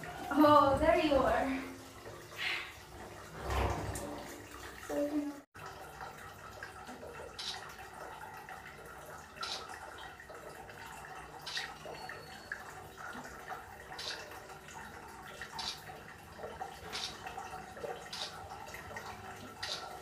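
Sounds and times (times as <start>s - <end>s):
water trickling and dripping: 0.0s - 20.0s.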